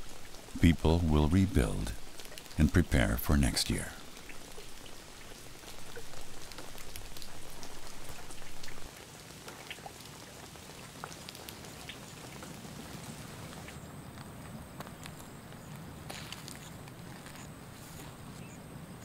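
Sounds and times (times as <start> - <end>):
rain pattering on water: 0.0 - 19.0.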